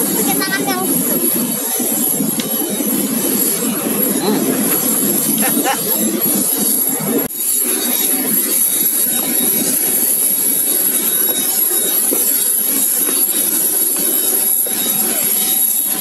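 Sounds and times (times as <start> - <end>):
jet turbine rush and whine: 0.0 - 16.0.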